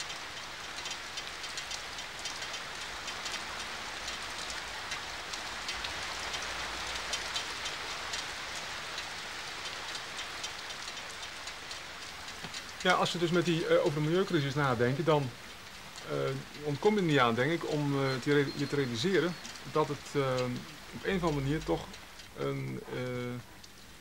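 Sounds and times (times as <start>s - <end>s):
raindrop ticks: 0.0s - 24.0s
steady rain hiss: 0.0s - 24.0s.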